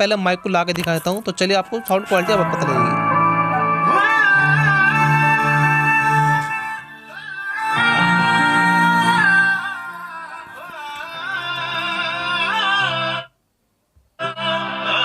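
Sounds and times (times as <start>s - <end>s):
song with singing over loudspeaker: 0.0s - 13.3s, 14.2s - 15.0s.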